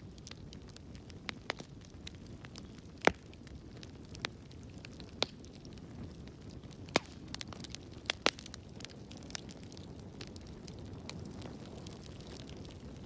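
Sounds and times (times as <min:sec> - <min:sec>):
fire rumbling: 0:00.0 - 0:13.0
wood fire crackling and popping: 0:00.0 - 0:13.0.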